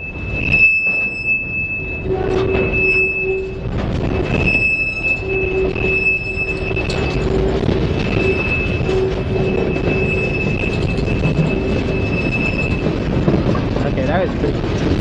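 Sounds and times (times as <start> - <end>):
freight train wheels rumbling: 0.0 - 15.0
wheels squealing: 0.0 - 15.0.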